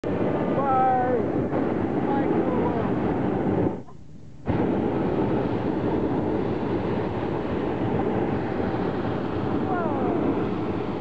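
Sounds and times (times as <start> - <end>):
propane burner blasting: 0.0 - 11.0.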